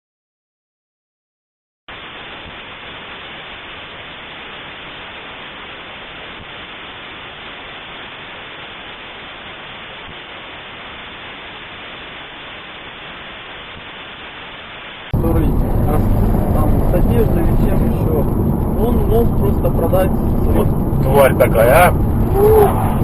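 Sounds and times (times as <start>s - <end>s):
steady static hiss: 1.9s - 23.0s.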